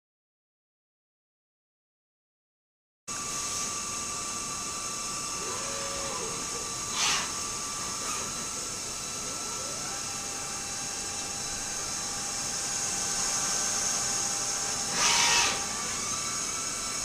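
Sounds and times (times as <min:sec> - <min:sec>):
lathe machine hissing and whining: 0:03.1 - 0:17.0.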